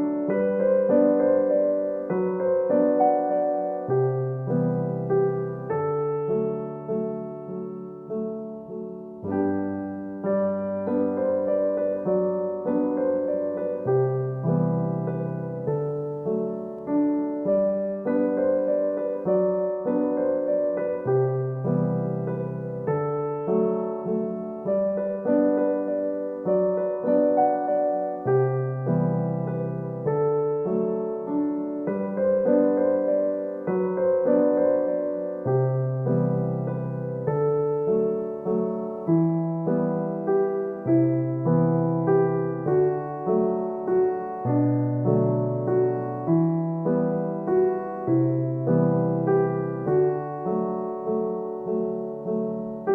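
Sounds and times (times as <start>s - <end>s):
electric piano chords: 0.0s - 52.9s.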